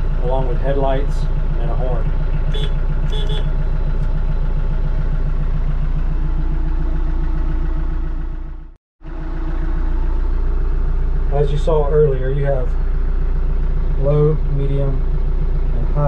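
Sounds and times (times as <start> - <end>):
diesel tractor engine idling: 0.0 - 16.0.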